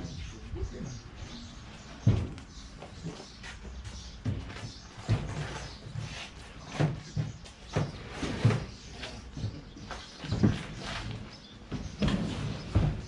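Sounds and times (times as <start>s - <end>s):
irregular knocks and thumps: 1.8s - 13.0s.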